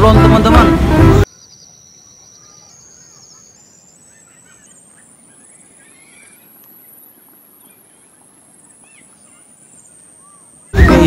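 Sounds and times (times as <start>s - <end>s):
bird chirps: 1.2s - 11.0s.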